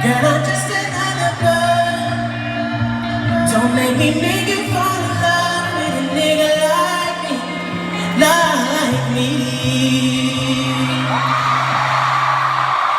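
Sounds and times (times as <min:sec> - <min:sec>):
crowd screaming and cheering: 0:00.0 - 0:12.9.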